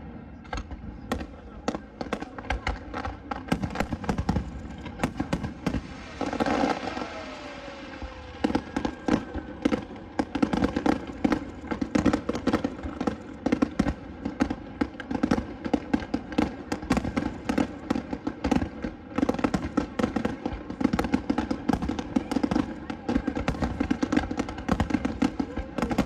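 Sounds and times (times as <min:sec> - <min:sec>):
firework bursts and crackles: 0:00.0 - 0:26.0.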